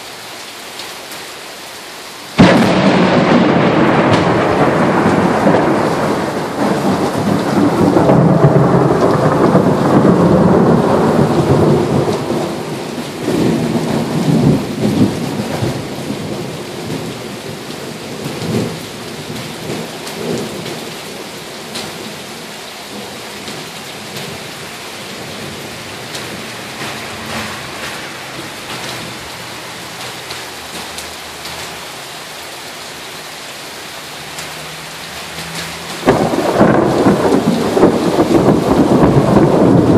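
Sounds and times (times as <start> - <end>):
steady rain: 0.0 - 39.9
thunder rumbling: 2.4 - 31.8, 35.4 - 39.9.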